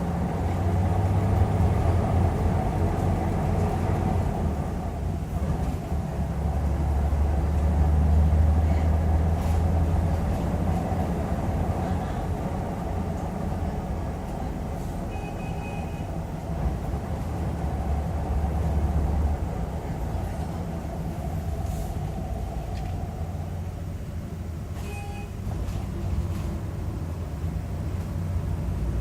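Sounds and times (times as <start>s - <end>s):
bus engine rumbling: 0.0s - 29.0s.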